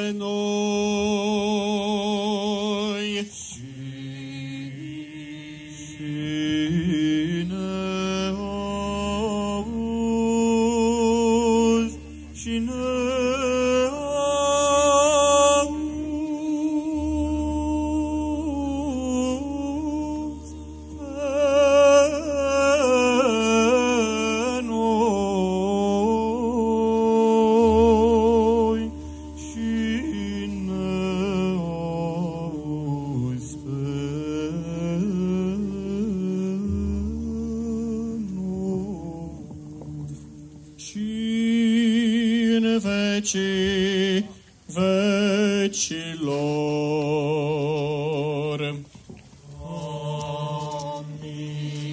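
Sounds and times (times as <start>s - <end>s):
voices singing liturgical chant: 0.0s - 51.9s.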